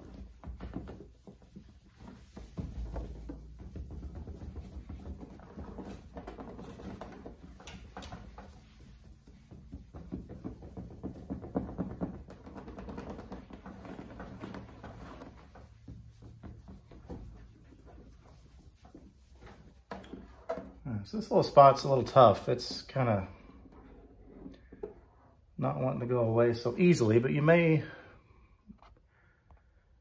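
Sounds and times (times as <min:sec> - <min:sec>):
towel rubbing on plastic: 0:00.0 - 0:27.4.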